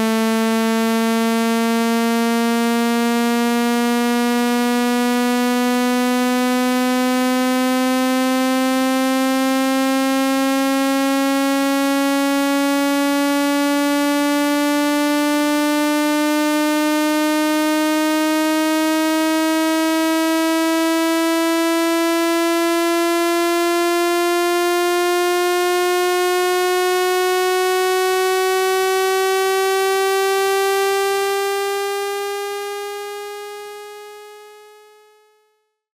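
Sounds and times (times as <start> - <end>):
buzzy electronic tone rising in pitch: 0.0 - 34.8.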